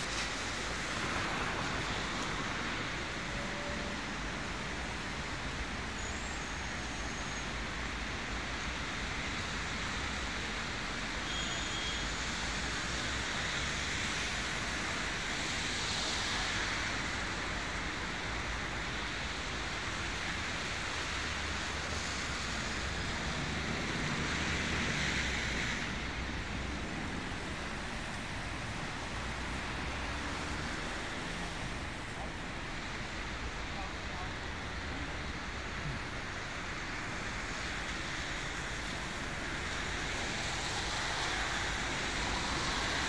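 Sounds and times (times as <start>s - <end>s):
traffic on wet pavement: 0.0s - 43.0s.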